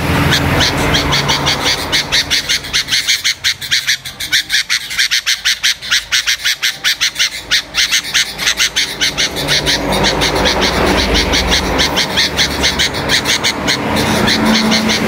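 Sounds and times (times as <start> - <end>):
bird chirping rapidly: 0.0 - 15.0.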